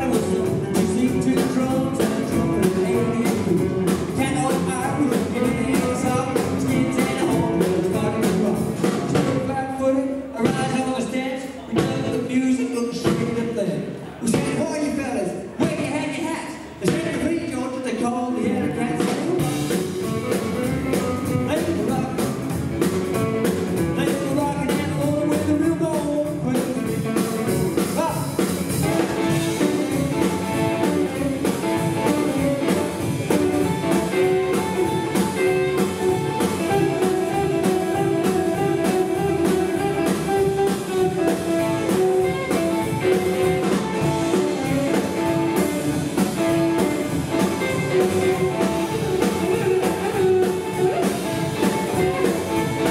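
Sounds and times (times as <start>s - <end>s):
rockabilly band playing: 0.0s - 52.9s.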